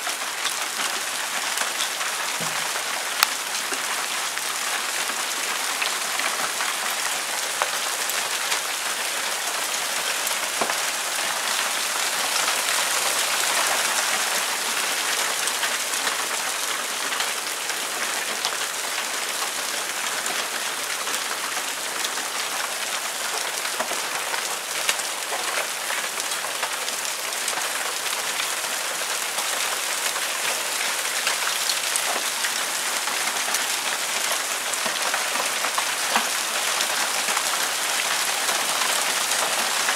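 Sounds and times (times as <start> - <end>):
hailstones hitting paving and lawn: 0.1 - 39.9.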